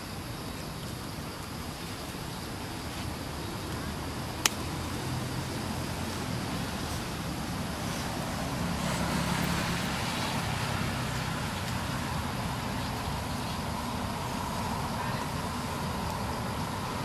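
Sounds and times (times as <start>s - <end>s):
noisy outdoor background: 0.0s - 17.0s.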